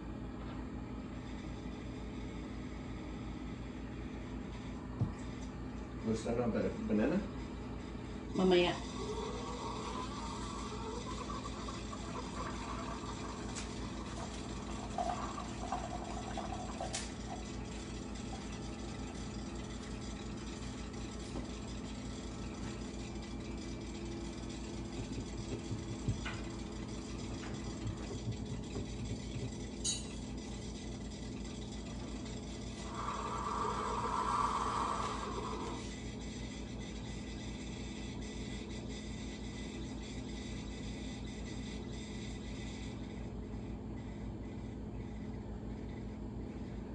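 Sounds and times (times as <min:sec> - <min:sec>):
coffee maker pump humming: 0:00.0 - 0:46.9.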